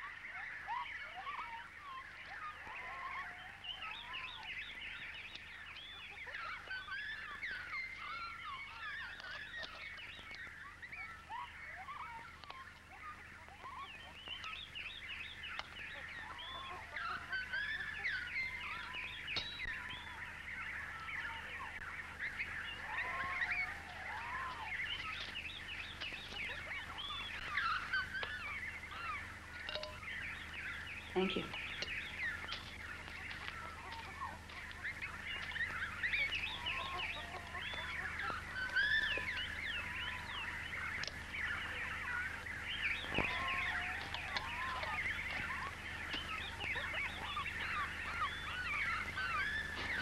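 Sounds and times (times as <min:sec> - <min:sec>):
birds chirping and whistling: 0:00.0 - 0:50.0.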